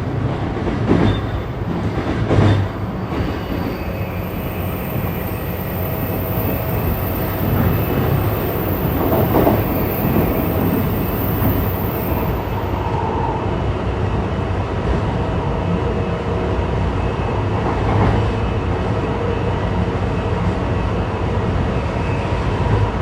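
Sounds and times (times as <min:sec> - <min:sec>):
train wheel-on-rail rumble: 0:00.0 - 0:23.0.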